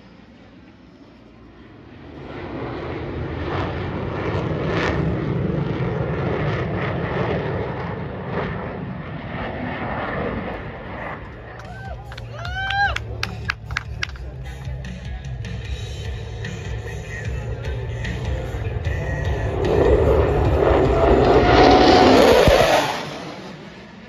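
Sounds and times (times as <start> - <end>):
jet flying past: 0.0 - 13.6, 17.6 - 24.0.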